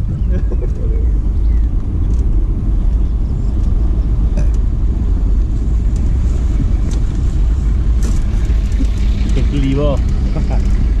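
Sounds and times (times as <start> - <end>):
vehicle rumble on road: 0.0 - 11.0
wind buffeting microphone: 0.0 - 11.0.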